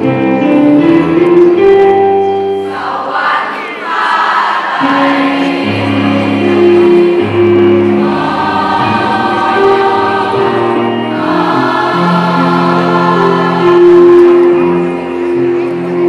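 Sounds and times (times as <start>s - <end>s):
choir singing in harmony: 2.5s - 16.0s.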